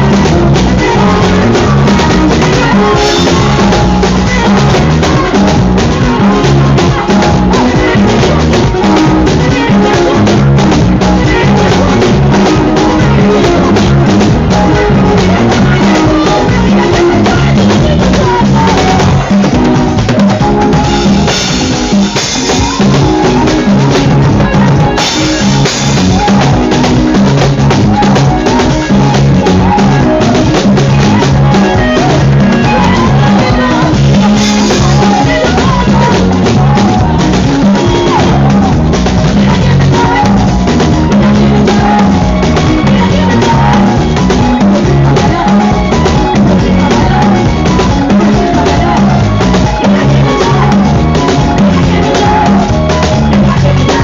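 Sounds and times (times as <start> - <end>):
bass line: 0.0 - 54.0
drum kit steady beat: 0.0 - 54.0.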